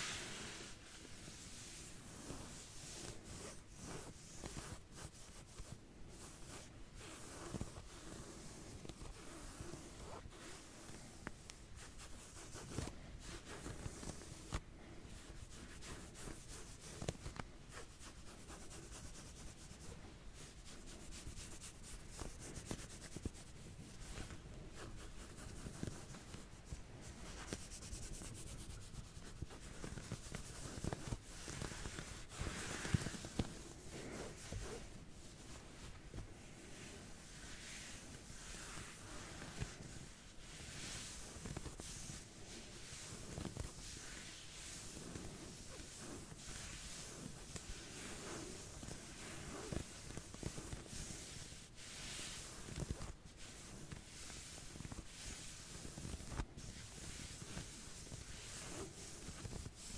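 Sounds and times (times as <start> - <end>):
soft scratching and rubbing: 0.0 - 59.9.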